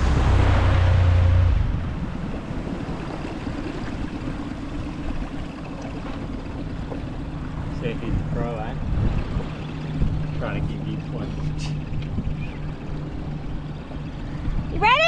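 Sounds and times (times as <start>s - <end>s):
boat motor running: 0.0s - 15.0s
water around hull: 0.0s - 15.0s.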